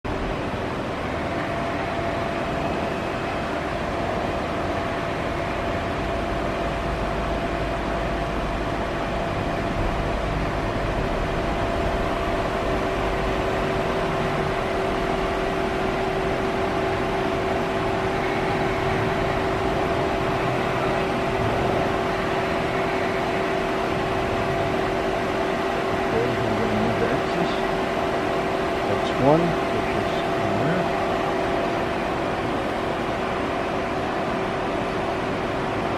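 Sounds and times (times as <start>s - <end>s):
lathe machine hum and whine: 0.1s - 35.9s.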